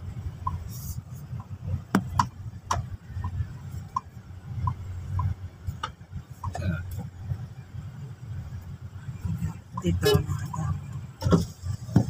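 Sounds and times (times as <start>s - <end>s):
car rumbling on rough road: 0.0s - 12.0s.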